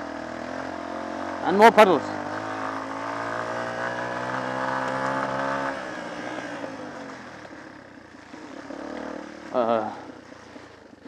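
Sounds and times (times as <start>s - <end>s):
off-road motorcycle engine revving: 0.0s - 11.0s.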